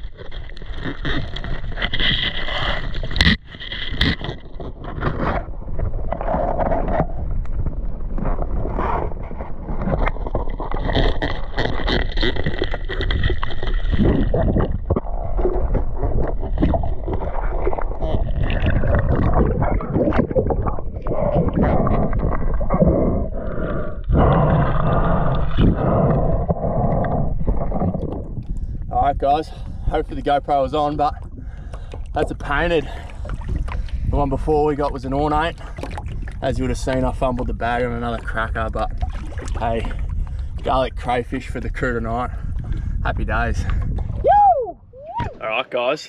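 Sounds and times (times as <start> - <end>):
underwater sloshing and gurgling: 0.0 - 45.9.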